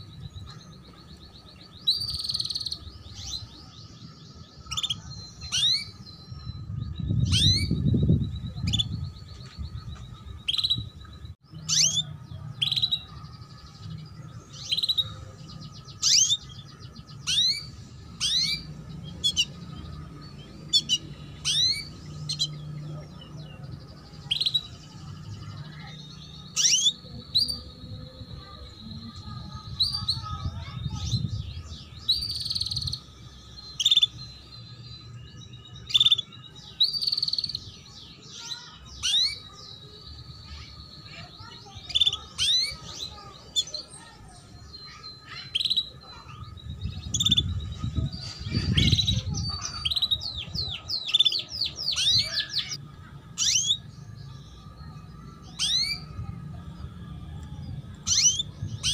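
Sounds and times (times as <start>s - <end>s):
canary chirps: 0.0s - 58.9s.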